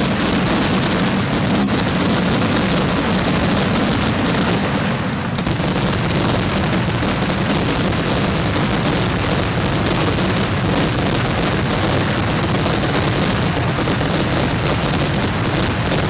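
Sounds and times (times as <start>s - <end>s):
fireworks crackling and bangs: 0.0s - 16.0s.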